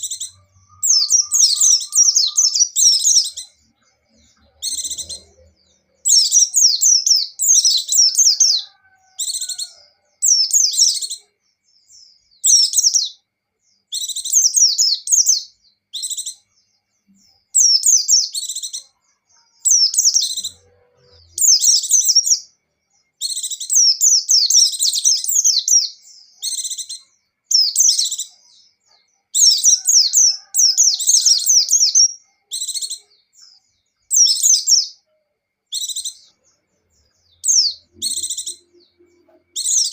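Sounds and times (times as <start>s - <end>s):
bird twittering: 0.0s - 11.3s, 13.9s - 16.5s, 17.2s - 35.1s, 35.7s - 39.9s.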